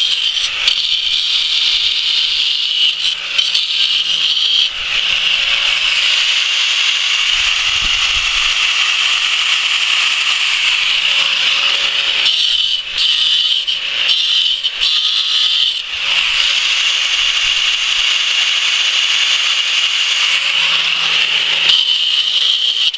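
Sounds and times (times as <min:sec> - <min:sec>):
angle grinder cutting stone: 0:00.0 - 0:22.9.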